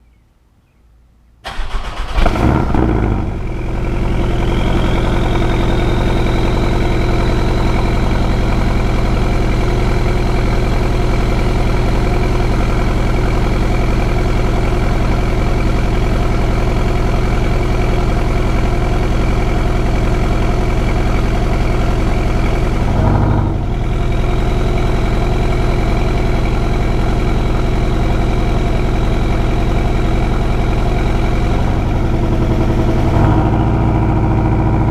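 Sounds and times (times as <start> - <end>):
car engine revving and idling: 1.5 - 34.9.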